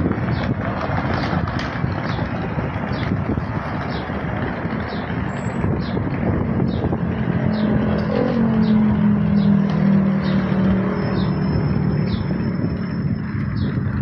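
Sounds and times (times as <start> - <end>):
traffic noise: 0.0 - 14.0
vehicle engine hum: 0.0 - 14.0.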